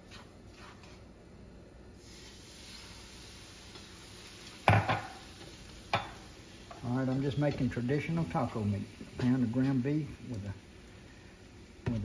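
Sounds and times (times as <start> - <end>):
meat sizzling in a skillet: 2.0 - 12.0.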